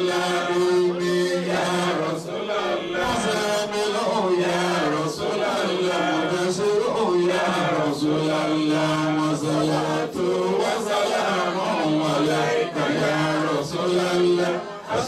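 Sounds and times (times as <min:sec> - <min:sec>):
man chanting into microphone: 0:00.0 - 0:15.0.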